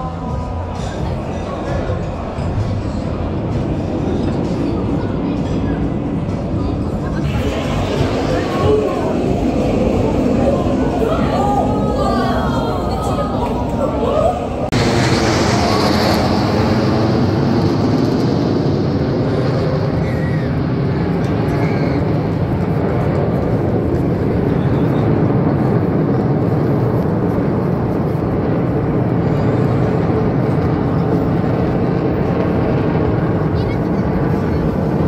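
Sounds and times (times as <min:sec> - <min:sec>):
jet aircraft rushing overhead: 0:00.0 - 0:35.0.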